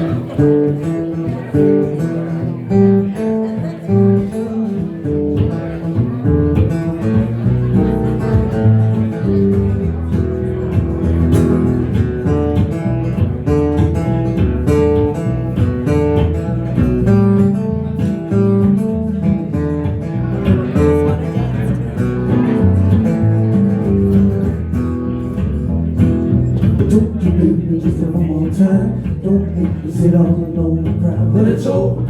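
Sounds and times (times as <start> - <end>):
band music with strummed acoustic guitar: 0.0 - 32.0.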